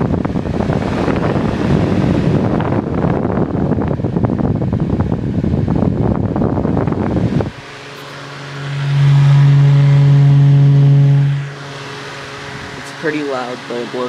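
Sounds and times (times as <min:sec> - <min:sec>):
fan air buffeting microphone: 0:00.0 - 0:14.0
low motor hum: 0:00.0 - 0:14.0.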